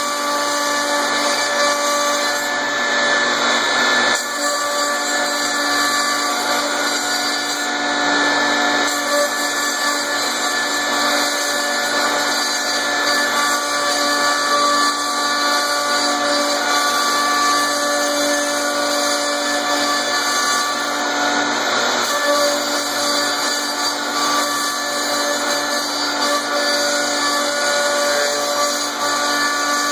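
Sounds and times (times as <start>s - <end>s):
cnc router spindle whine: 0.0s - 29.9s.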